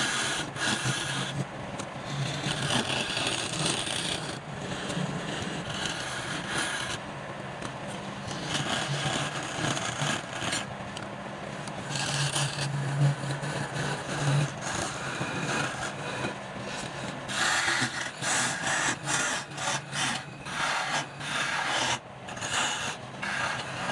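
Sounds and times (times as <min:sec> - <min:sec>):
tool scraping wood on lathe: 0:00.0 - 0:07.0, 0:07.8 - 0:23.9
low motor hum: 0:00.0 - 0:23.9.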